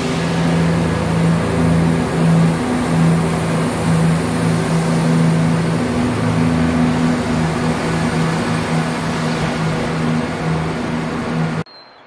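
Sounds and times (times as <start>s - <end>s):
train diesel engines droning: 0.0s - 12.0s.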